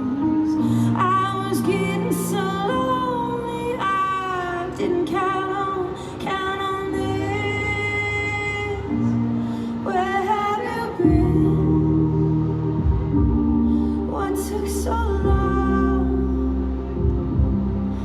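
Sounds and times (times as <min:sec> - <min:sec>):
woman singing: 0:00.0 - 0:17.8
keyboard and bass notes: 0:00.0 - 0:18.0.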